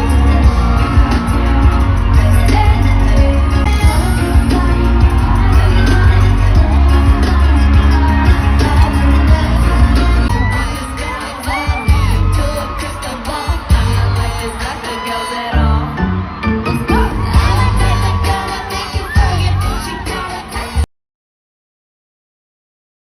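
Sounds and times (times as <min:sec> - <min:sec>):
heavy bass beat: 0:00.0 - 0:15.1, 0:16.2 - 0:20.8
pop singing over sound system: 0:00.0 - 0:20.9.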